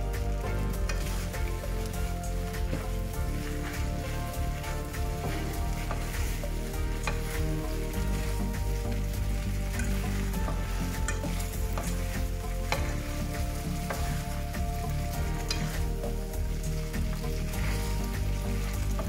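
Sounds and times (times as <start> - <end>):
food sizzling in a wok: 0.0 - 19.0
spatula scraping a pan: 0.1 - 19.0.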